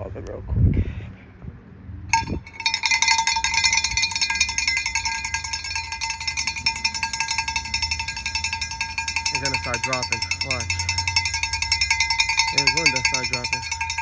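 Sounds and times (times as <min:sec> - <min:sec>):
metal object rattling: 0:02.1 - 0:14.0.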